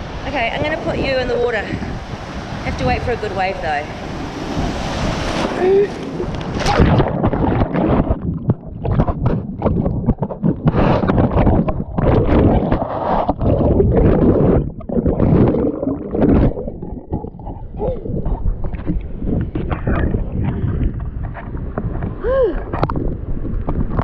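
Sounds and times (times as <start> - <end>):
ocean surf churning on microphone: 0.0 - 22.9.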